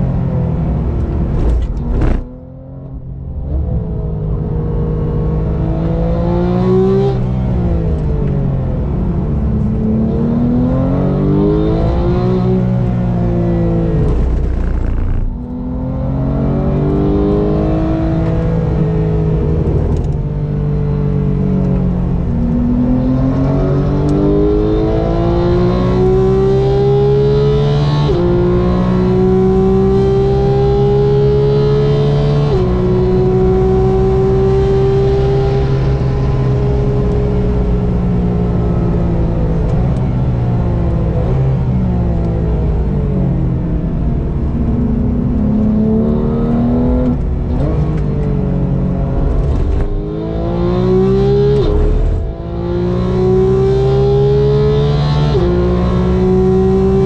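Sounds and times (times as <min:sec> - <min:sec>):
sports car engine accelerating: 0:00.0 - 0:57.0.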